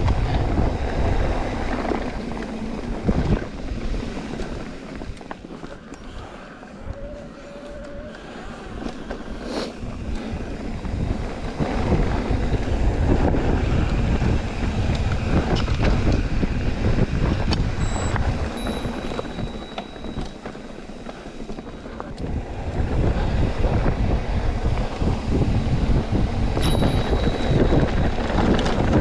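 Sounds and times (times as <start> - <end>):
bike rumble on a trail: 0.0 - 29.0
wind buffeting a microphone: 0.0 - 29.0.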